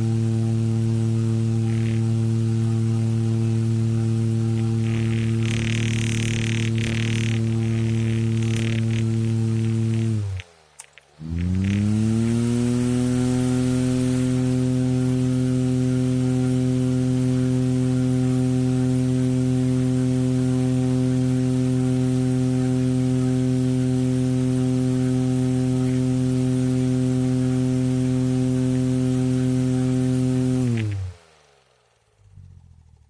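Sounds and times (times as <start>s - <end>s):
floor fan running: 0.0s - 33.0s.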